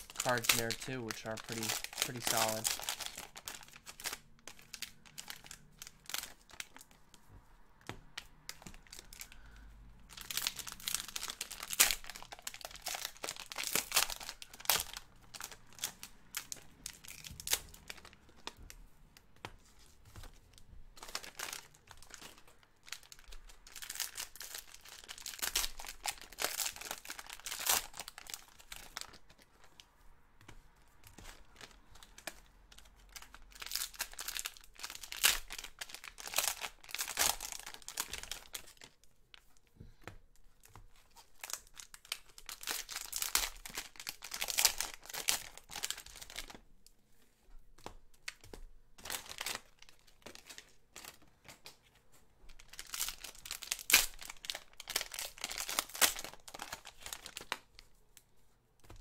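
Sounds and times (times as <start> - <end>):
plastic wrappers crinkling and tearing: 0.0 - 7.3, 7.9 - 59.0.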